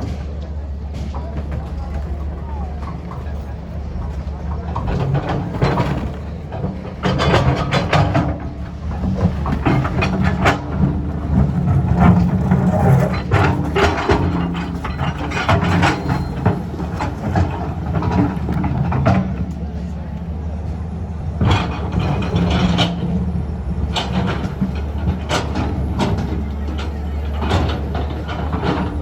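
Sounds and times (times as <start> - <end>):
engine running: 0.0 - 29.0
sharp clattering knocks and bangs: 0.0 - 29.0.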